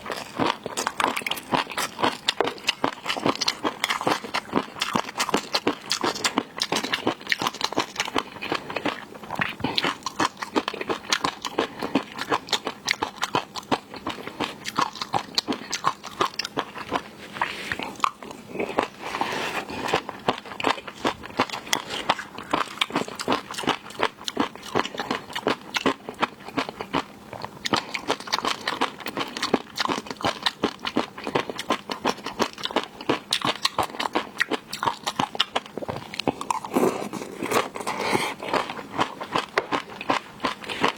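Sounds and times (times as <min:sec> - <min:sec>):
crunching and chewing seafood: 0:00.0 - 0:40.9.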